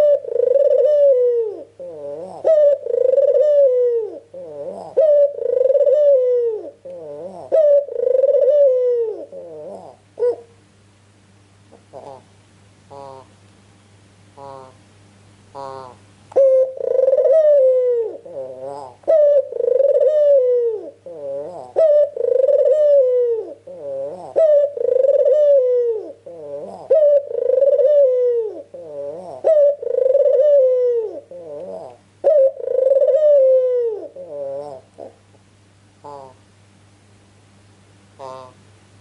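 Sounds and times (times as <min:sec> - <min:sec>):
dove cooing: 0:00.0 - 0:10.6, 0:11.7 - 0:12.3, 0:12.9 - 0:13.4, 0:14.4 - 0:14.8, 0:15.5 - 0:35.3, 0:36.0 - 0:36.4, 0:38.2 - 0:38.6.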